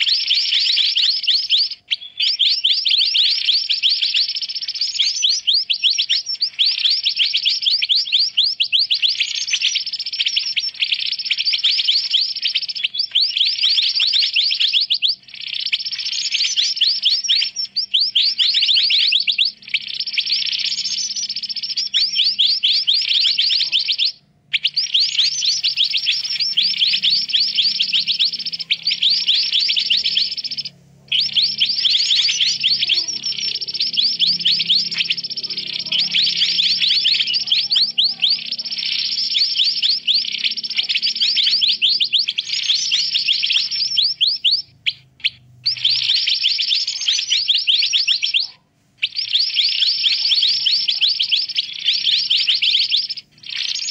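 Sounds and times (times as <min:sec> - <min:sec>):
birds chirping noisily: 0:00.0 - 0:53.9.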